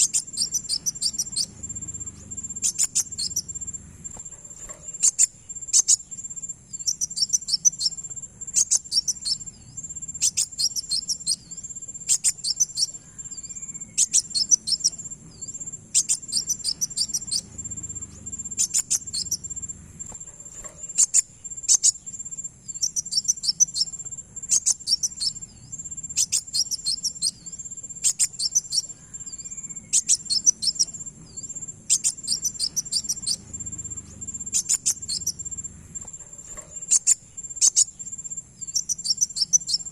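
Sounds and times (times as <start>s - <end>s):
bird twittering call: 0.0s - 39.9s.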